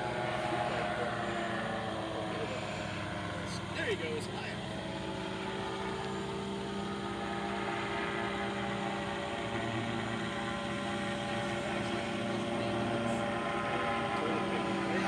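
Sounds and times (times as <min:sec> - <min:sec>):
propeller airplane engine droning: 0:00.0 - 0:15.0.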